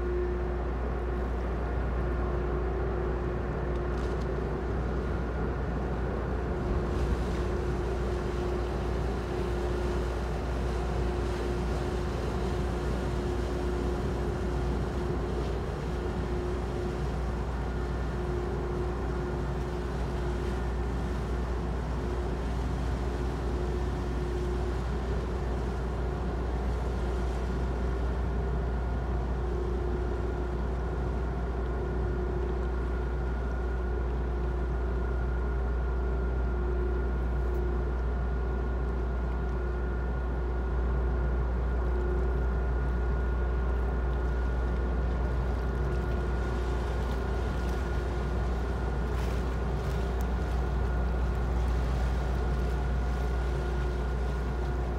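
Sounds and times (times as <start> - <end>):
high engine whine: 0.0 - 54.9
ship engines rumbling: 0.0 - 54.9.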